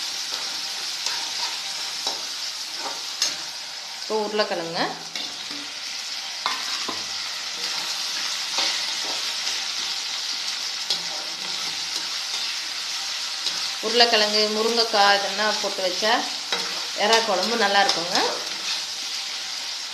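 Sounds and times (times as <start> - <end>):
food sizzling in hot oil: 0.0 - 19.9.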